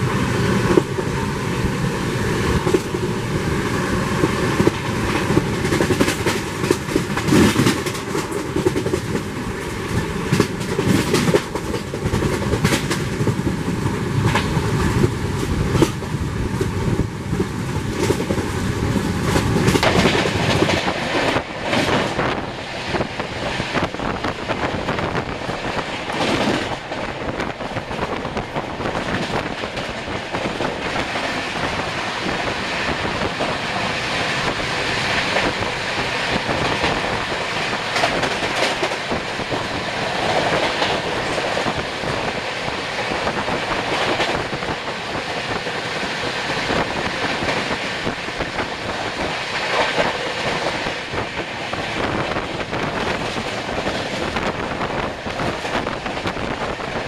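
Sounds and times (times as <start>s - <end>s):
train passing close: 0.0s - 57.0s
train wind and wheels rushing: 0.0s - 57.0s
wheels clacking over rail joints: 2.4s - 57.0s.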